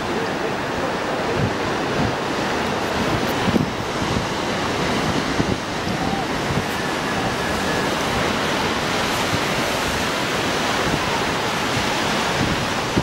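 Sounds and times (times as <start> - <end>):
waves washing over rocky shore: 0.0 - 13.0.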